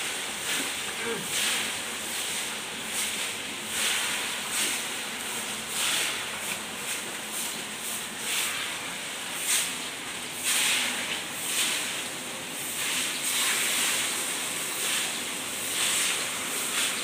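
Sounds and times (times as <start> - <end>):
oil sizzling in a wok: 0.0 - 17.0.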